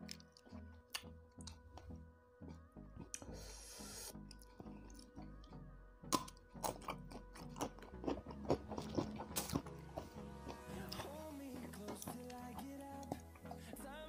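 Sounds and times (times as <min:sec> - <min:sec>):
crisp chewing and crunching: 0:00.0 - 0:14.0.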